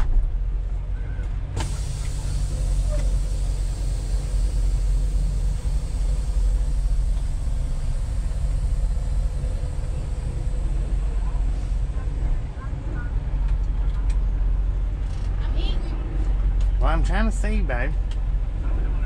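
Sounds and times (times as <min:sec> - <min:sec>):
diesel engine low rumble: 0:00.0 - 0:19.0.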